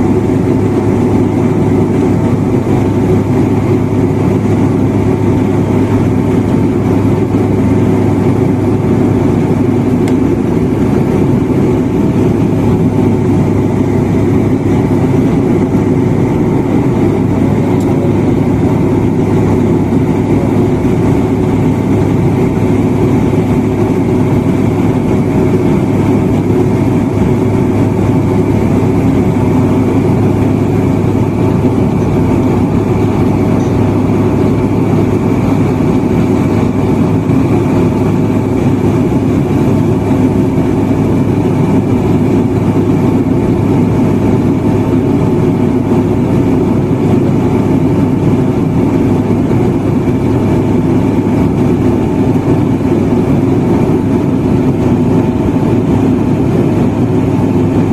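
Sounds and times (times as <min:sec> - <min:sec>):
low hum: 0:00.0 - 0:57.9
propeller plane cabin drone: 0:00.0 - 0:57.9.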